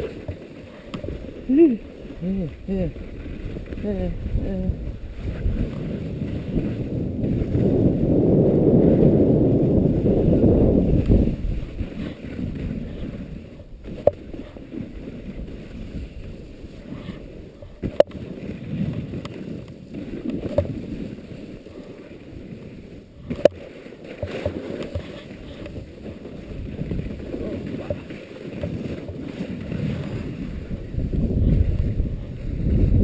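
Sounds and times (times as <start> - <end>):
wind buffeting microphone: 0.0 - 23.5, 24.2 - 33.0.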